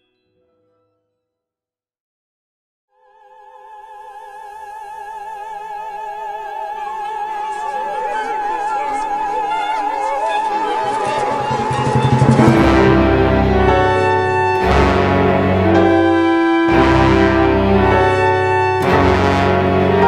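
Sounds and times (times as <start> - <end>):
lower voices singing: 3.0 - 20.0
operatic high voice singing: 3.0 - 20.0.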